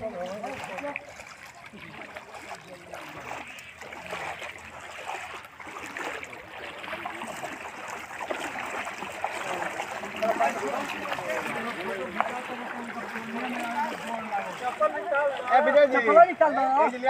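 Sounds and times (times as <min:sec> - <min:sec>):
feet splashing through water: 0:00.0 - 0:17.0.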